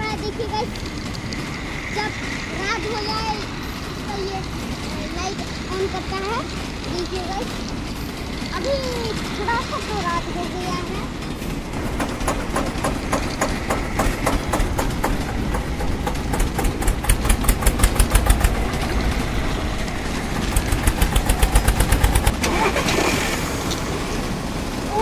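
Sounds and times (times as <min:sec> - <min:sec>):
motorized toy vehicle chugging: 0:00.0 - 0:25.0.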